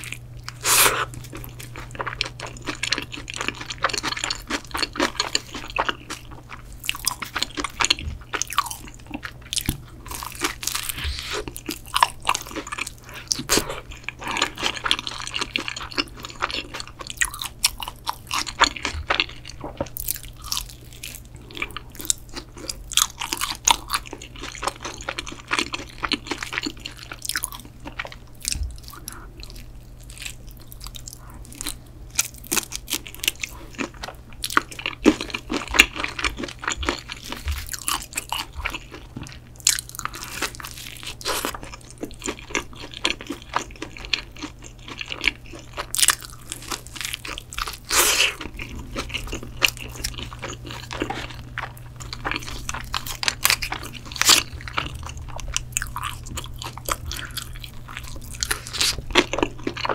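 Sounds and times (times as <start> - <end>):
crunchy chewing: 0.0 - 59.9
faint low hum: 0.0 - 59.9.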